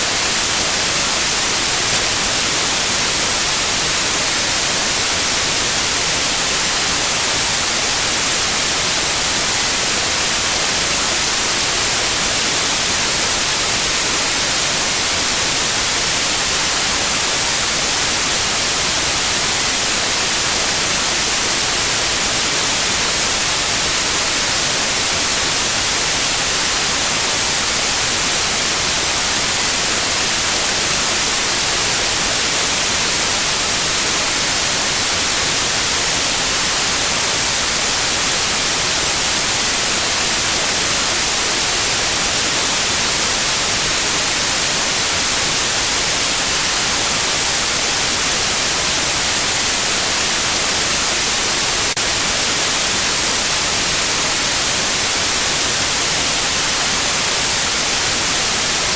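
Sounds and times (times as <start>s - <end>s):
high-pitched sine tone: 0.0s - 58.9s
white noise hiss: 0.0s - 58.9s.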